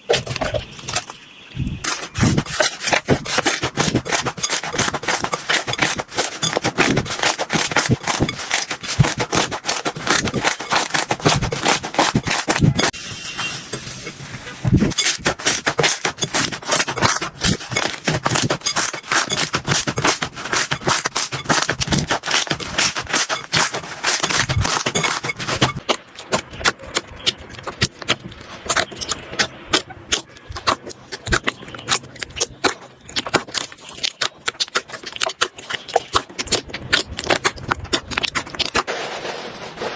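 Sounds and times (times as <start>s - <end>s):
slime crackling and popping: 1.9s - 13.0s, 14.7s - 38.9s.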